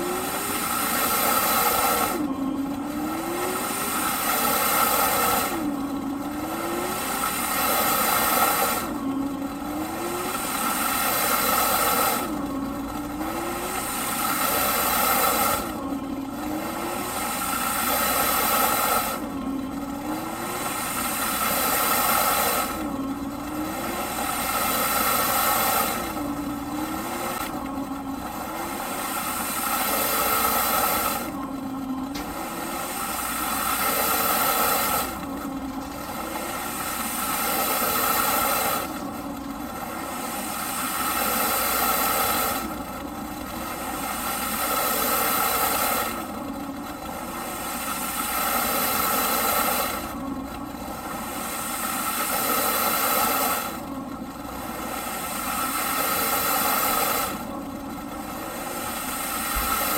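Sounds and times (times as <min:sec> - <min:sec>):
vacuum cleaner surging: 0:00.0 - 0:59.9.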